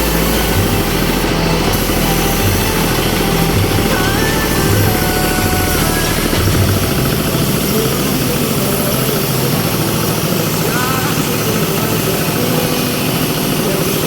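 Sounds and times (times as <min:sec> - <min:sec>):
engine running with low pulse: 0:00.0 - 0:14.0.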